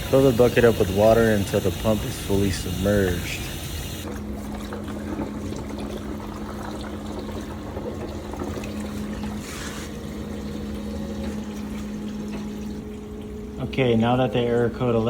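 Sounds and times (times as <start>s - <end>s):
water pouring into a bucket: 0.0s - 12.9s
steady low hum: 0.0s - 15.0s.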